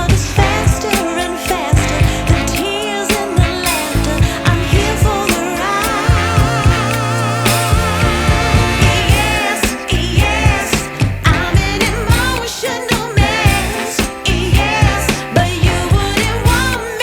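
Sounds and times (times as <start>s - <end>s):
song with vibrato vocals: 0.0s - 17.0s.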